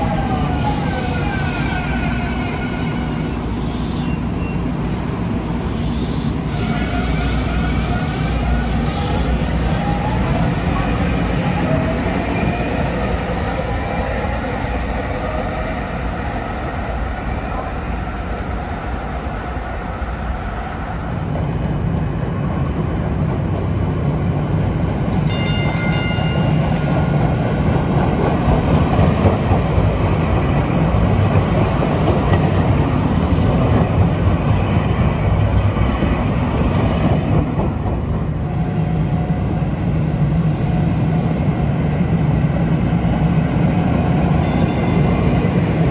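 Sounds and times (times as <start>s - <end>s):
light rail train whine: 0.0s - 45.9s
train rumbling on track: 0.0s - 45.9s.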